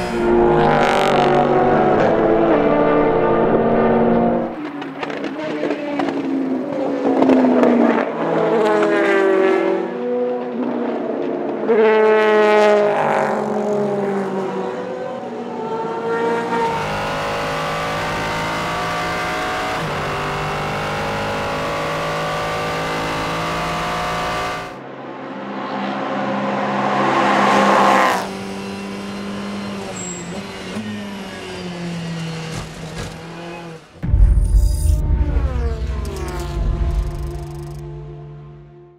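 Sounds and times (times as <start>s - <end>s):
race cars passing: 0.0s - 34.1s, 34.9s - 38.9s
high-revving race car engine: 0.0s - 38.9s.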